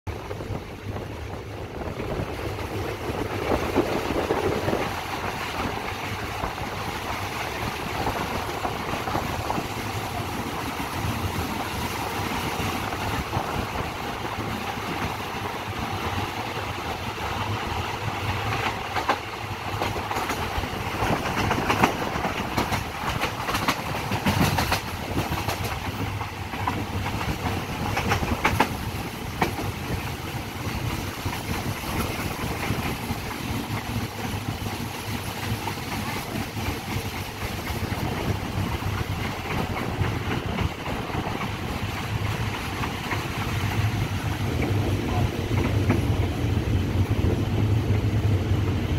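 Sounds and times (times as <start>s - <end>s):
train wheels on rails: 0.1s - 48.9s
wheels clacking over rail joints: 0.2s - 48.7s.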